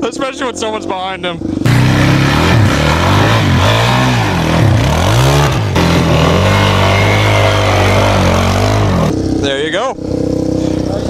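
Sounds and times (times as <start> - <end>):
dirt bike engine revving: 0.1 - 11.0.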